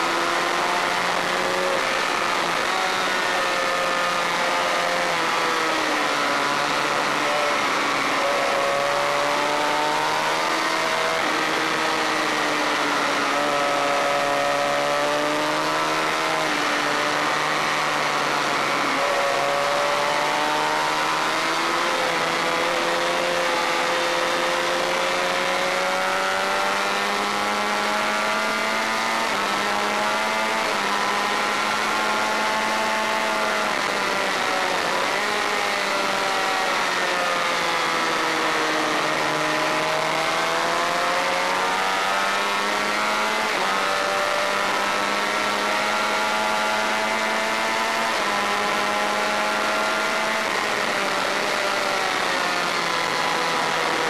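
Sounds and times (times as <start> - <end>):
race bike engine: 0.0 - 54.0.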